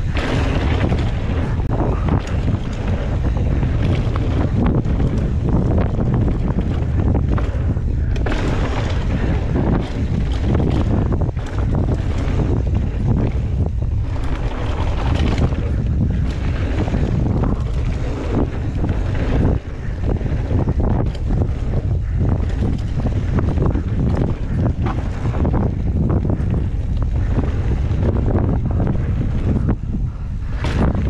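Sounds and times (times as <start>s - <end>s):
bike knocks and rattles: 0.0s - 31.0s
bike tyre rumble: 0.0s - 31.0s
wind buffeting microphone: 0.0s - 31.0s.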